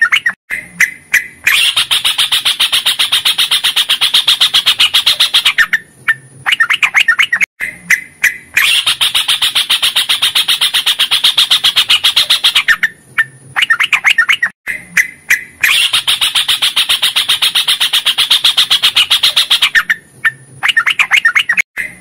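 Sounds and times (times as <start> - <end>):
bird singing rolling trill: 0.0 - 21.6.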